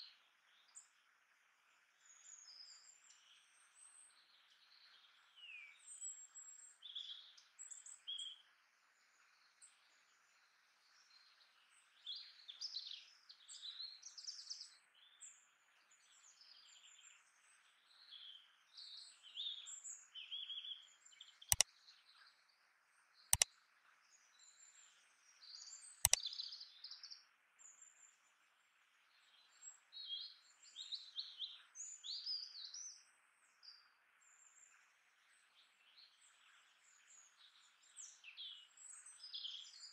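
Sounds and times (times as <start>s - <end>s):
small birds chirping: 2.0s - 39.9s.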